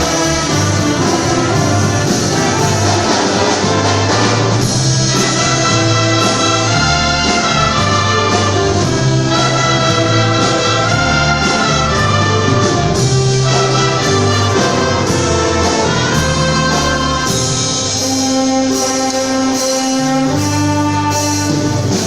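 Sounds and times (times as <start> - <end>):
brass band playing a hymn: 0.0 - 22.0.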